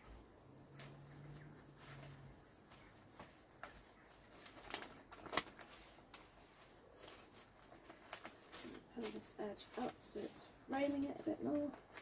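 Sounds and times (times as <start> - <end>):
wrapping paper rustling: 0.0 - 12.0
sharp paper crackle: 0.7 - 12.0.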